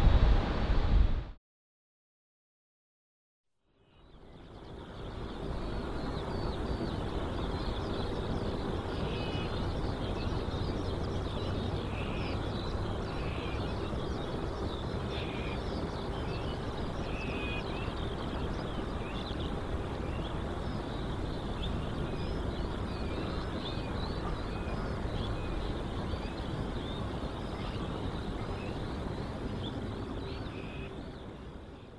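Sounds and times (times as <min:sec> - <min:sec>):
steady low rumble and hiss: 0:03.8 - 0:31.9.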